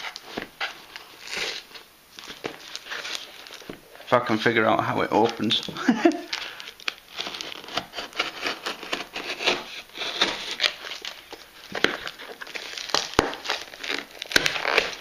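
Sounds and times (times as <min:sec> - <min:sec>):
packaging crinkling and tearing: 0:00.0 - 0:04.1, 0:05.1 - 0:15.0.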